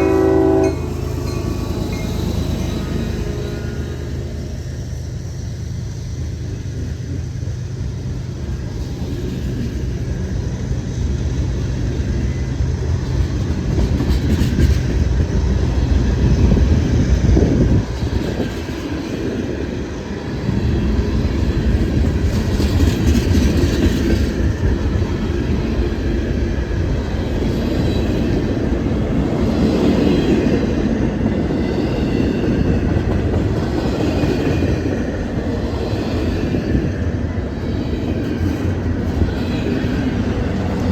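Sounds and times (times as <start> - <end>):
clattering train wheels: 0.0 - 40.9
diesel locomotive engine drone: 0.0 - 40.9
train cars rumbling: 0.0 - 40.9.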